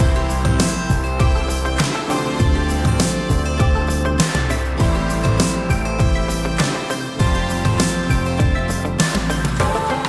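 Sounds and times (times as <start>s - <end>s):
upbeat music with guitar: 0.0s - 10.0s.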